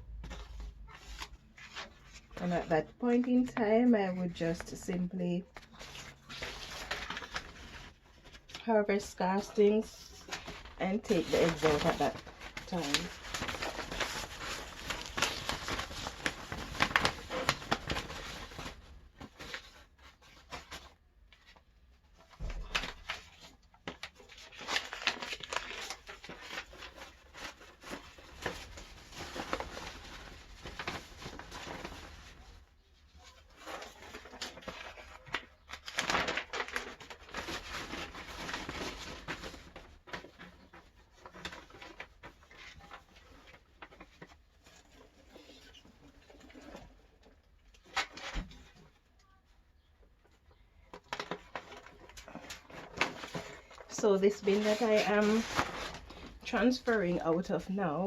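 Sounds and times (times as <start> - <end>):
rustling and crinkling cardboard: 0.0 - 57.7.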